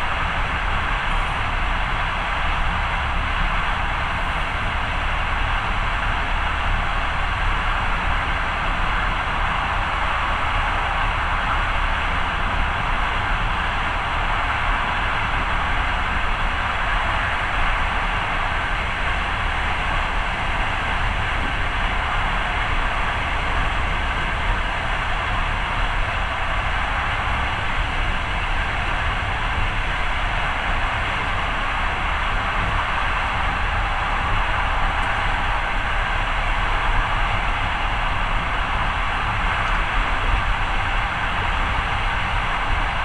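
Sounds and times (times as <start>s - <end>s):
moving train rushing and rumbling: 0.0s - 43.0s.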